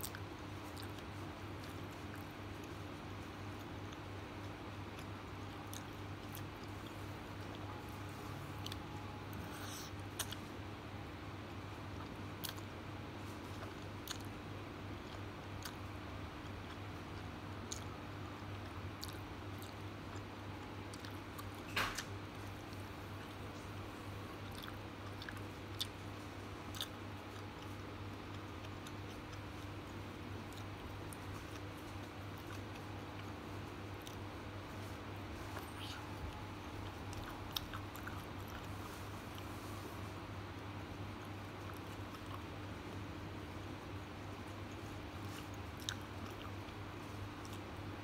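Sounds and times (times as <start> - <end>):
person chewing: 0.0 - 10.5, 12.0 - 12.7, 13.3 - 40.0, 40.6 - 47.7
steady low hum: 0.0 - 48.0.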